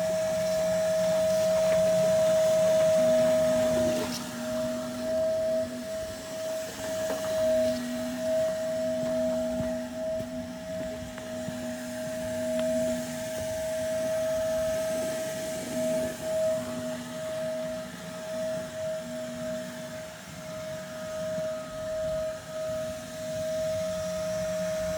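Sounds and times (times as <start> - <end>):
small electric motor humming: 0.0 - 24.9.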